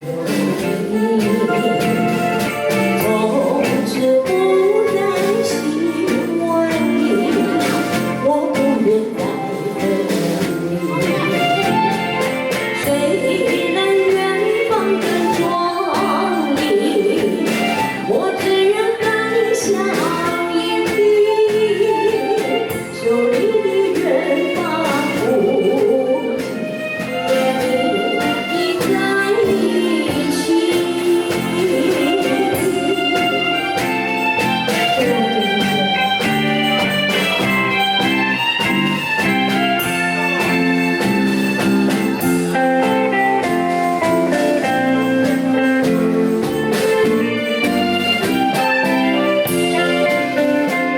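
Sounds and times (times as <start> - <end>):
instrumental accompaniment: 0.0 - 50.9
song with beat and singing: 0.0 - 50.9.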